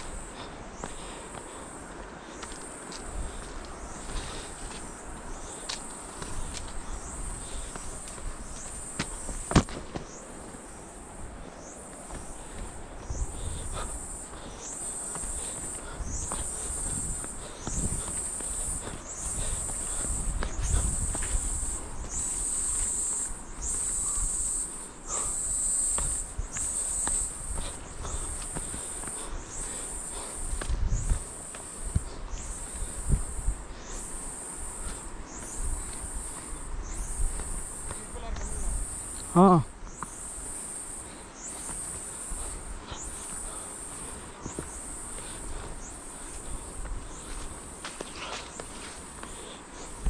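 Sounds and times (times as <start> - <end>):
footsteps on stony trail: 0.0 - 50.0
insect drone with chirps: 0.0 - 50.0.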